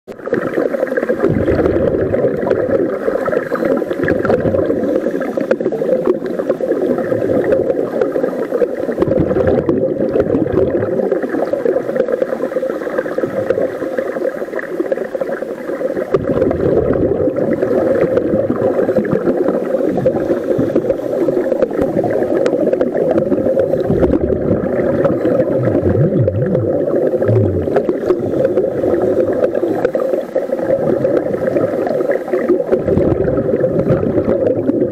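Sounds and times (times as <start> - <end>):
bubbles gurgling: 0.1 - 34.9
underwater droning hiss: 0.2 - 34.9.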